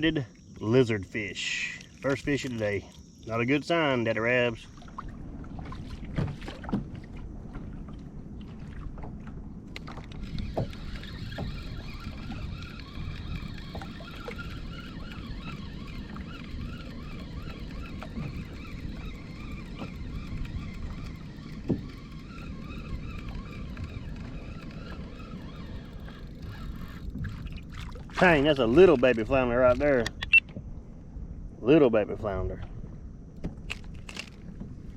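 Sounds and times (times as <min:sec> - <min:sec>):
water against boat hull: 0:00.0 - 0:30.8, 0:32.0 - 0:34.9
wind on microphone: 0:04.7 - 0:34.9.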